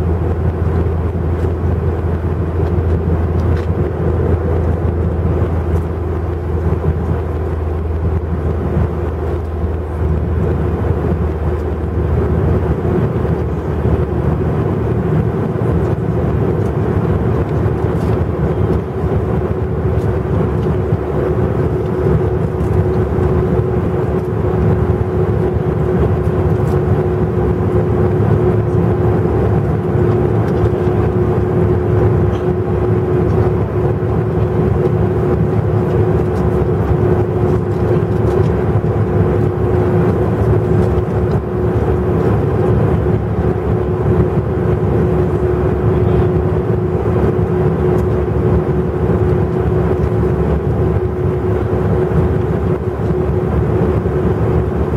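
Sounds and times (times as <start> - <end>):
aircraft engine and airflow rush: 0.0 - 54.9
steady low hum: 0.0 - 54.9.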